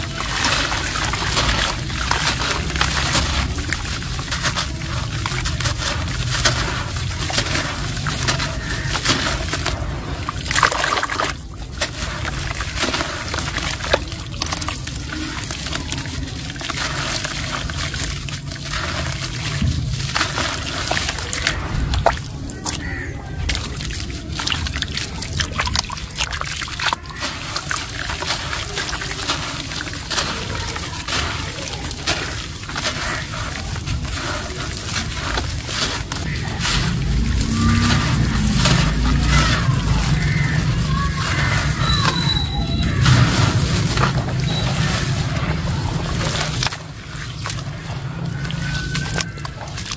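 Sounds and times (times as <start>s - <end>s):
cement lumps crunching: 0.0s - 49.9s
crumbs splashing into water: 0.0s - 49.9s.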